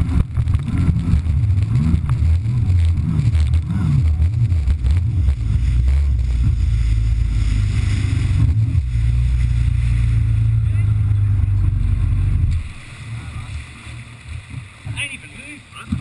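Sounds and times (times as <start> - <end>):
jet ski engine running: 0.0 - 16.0
water rushing past hull: 0.0 - 16.0.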